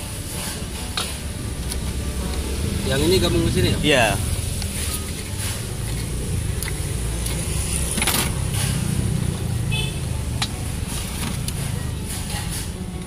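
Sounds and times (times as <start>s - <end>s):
low rumble of road traffic: 0.0s - 13.0s
car engine running close by: 1.4s - 13.0s.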